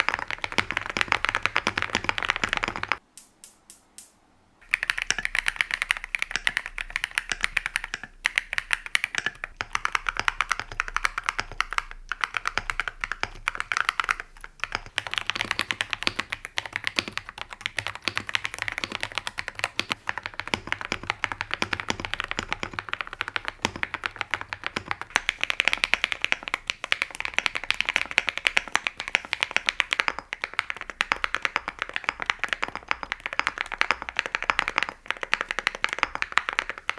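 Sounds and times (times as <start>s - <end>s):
fast mechanical keyboard typing: 0.0s - 3.0s, 4.6s - 36.9s
sharp high clicks: 0.0s - 36.9s.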